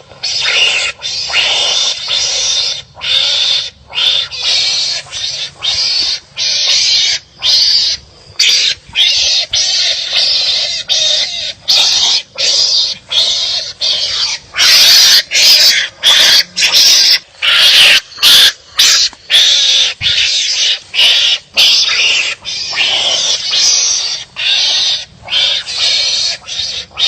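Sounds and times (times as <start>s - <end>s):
animals barking harshly: 0.0s - 27.0s.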